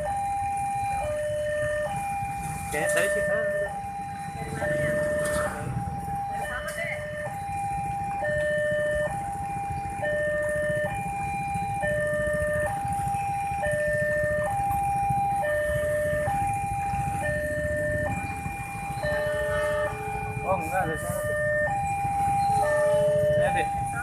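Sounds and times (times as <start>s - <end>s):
two-tone level crossing alarm: 0.0s - 24.0s.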